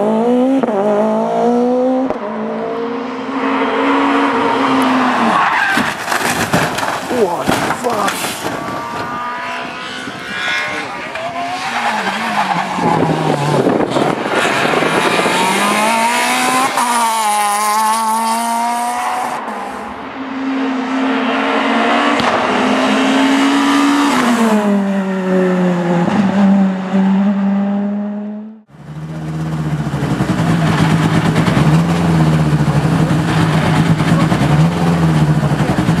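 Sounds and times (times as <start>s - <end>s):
car engine at lower revs: 0.0s - 5.4s, 7.5s - 36.0s
rally car engine at full throttle: 0.0s - 36.0s.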